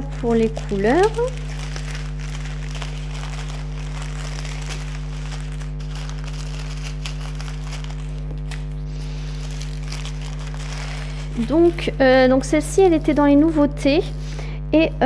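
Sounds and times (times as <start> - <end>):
plastic zip bags crinkling: 0.0 - 13.5
steady low hum: 0.0 - 15.0.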